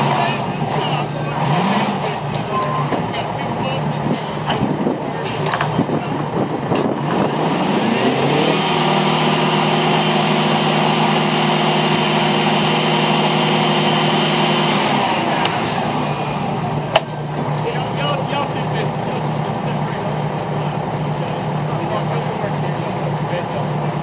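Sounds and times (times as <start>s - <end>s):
engine revving: 0.0s - 24.0s.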